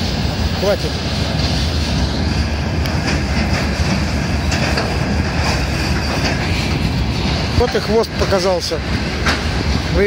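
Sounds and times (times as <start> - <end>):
freight train wagons rumbling: 0.0 - 10.0
wheels clacking over rail joints: 0.0 - 10.0.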